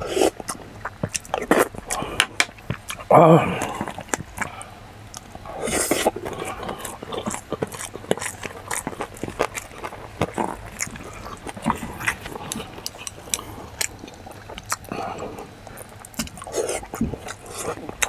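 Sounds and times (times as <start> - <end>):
wet chewing and lip smacking: 0.0 - 18.0.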